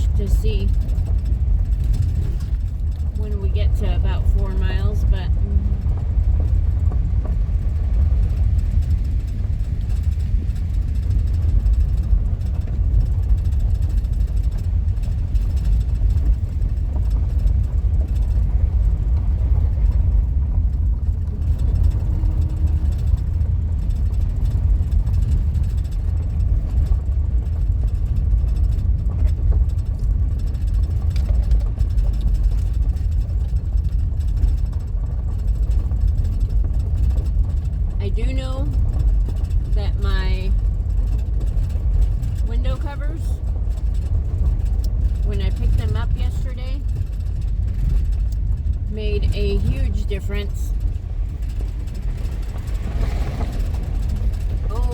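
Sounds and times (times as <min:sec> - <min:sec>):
low rumble of engine and tyres: 0:00.0 - 0:54.9.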